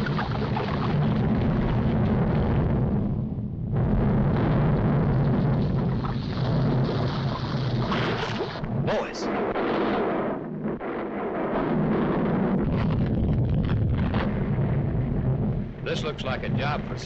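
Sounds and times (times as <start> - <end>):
cartoon volcano rumble: 0.0 - 17.0.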